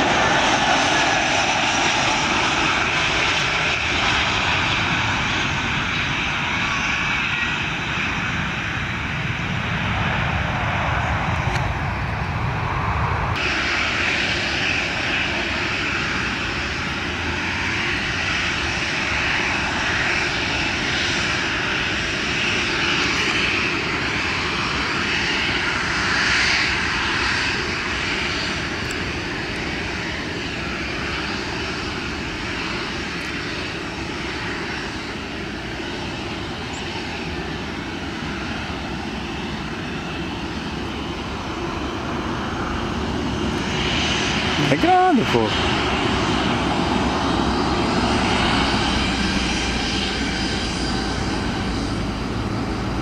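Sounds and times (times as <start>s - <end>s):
jet engines roaring at take-off: 0.0s - 53.0s.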